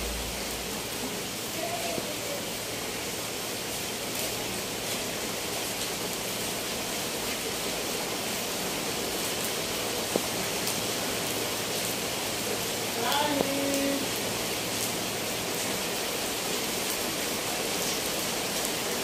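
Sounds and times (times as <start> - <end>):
rain on leaves and roof: 0.0 - 19.0.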